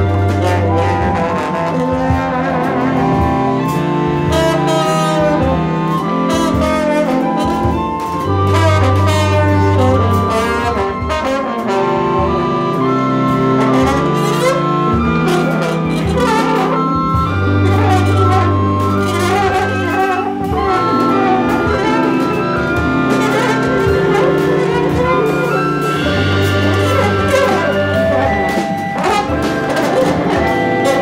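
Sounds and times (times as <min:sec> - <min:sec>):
cymbal and drum strokes: 0:00.0 - 0:31.0
large jazz ensemble playing: 0:00.0 - 0:31.0.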